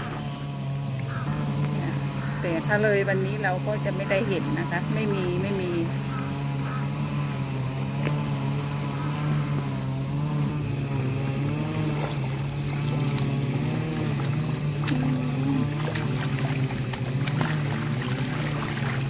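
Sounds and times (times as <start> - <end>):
small engine droning: 0.0 - 19.0.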